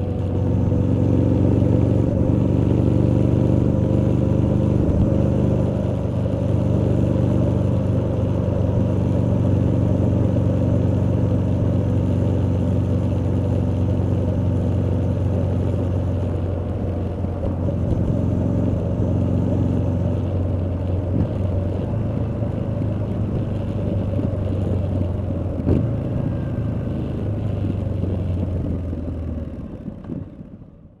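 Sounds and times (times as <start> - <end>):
motorcycle exhaust cruising: 0.0 - 31.0.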